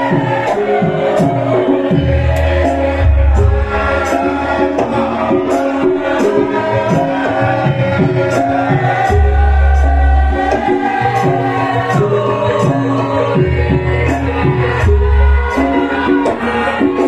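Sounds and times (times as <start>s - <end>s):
singing voice: 0.0s - 17.0s
steady percussion beat: 0.0s - 17.0s.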